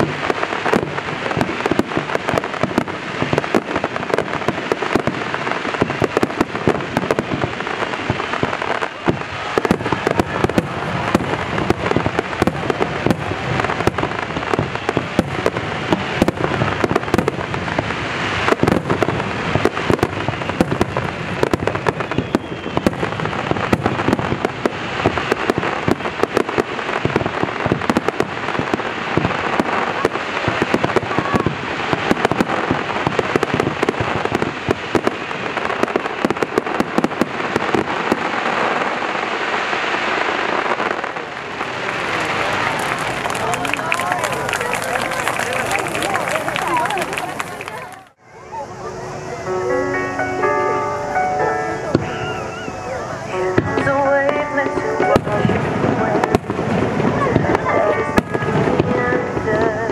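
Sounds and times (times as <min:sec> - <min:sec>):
fireworks bangs and crackling: 0:00.0 - 0:50.6, 0:51.8 - 0:59.9.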